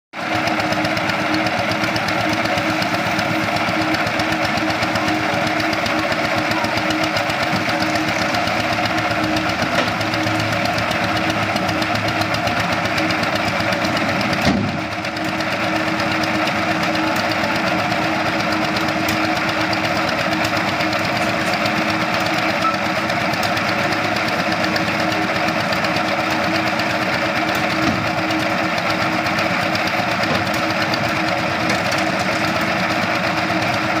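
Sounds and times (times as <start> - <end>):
engine running steadily: 0.2 - 34.0.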